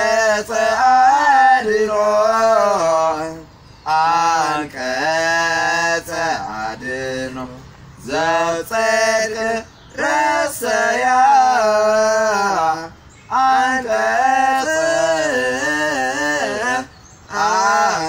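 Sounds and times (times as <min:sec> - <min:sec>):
man singing slow melody: 0:00.0 - 0:18.0.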